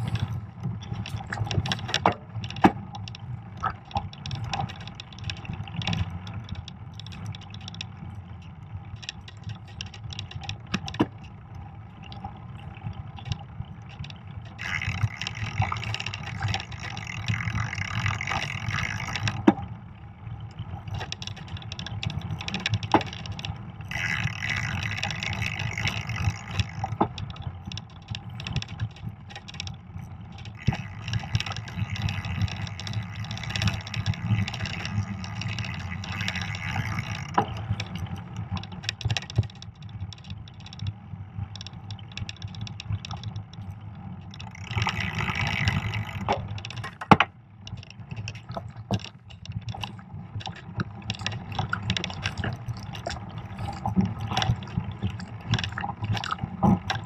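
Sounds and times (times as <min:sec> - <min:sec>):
bike knocks and rattles: 0:00.0 - 0:06.0, 0:08.9 - 0:11.3, 0:13.3 - 0:19.7, 0:21.0 - 0:29.7, 0:30.4 - 0:40.8, 0:44.5 - 0:57.0.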